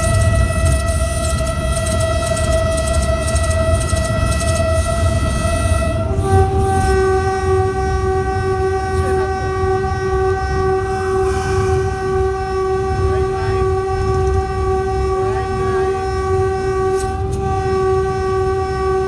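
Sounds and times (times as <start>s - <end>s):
locomotive horn: 0.0s - 19.0s
low rumble of train: 0.0s - 19.0s.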